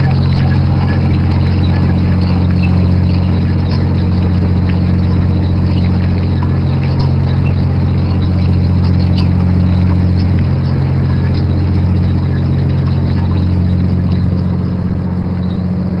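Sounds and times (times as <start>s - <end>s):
ship engines droning: 0.0s - 16.0s.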